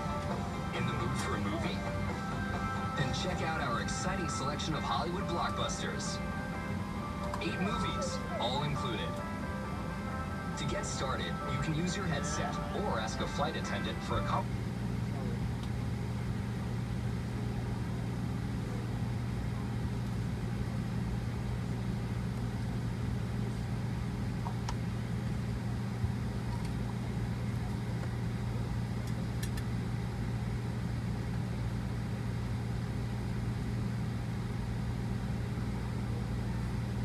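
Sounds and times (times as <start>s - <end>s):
airliner cabin drone: 0.0s - 37.0s.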